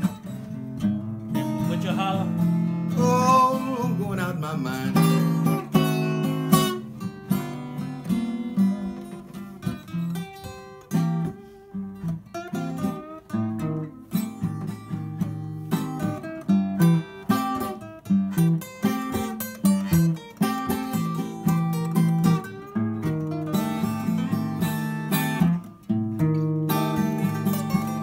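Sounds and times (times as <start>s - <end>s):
acoustic blues guitar: 0.0s - 28.0s.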